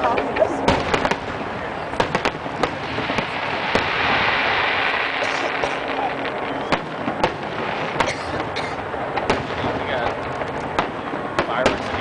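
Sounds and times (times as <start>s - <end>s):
continuous noisy rush: 0.0s - 12.0s
fireworks bangs: 0.0s - 12.0s.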